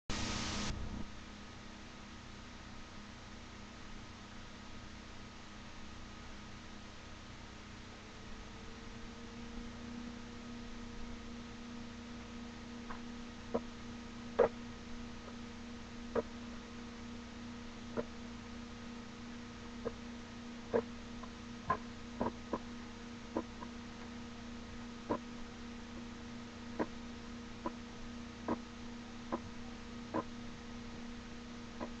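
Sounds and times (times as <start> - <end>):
electrical hum: 0.1 - 32.0.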